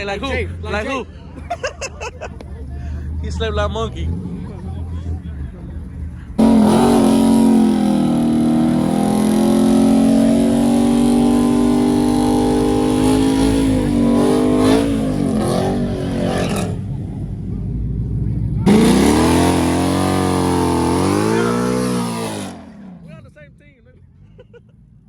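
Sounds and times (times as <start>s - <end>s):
car engine revving: 2.4s - 23.4s.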